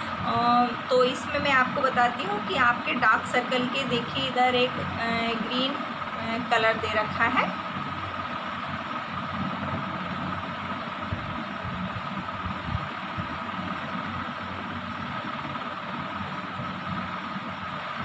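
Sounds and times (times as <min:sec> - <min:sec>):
mechanical hum and hiss: 0:00.0 - 0:18.0.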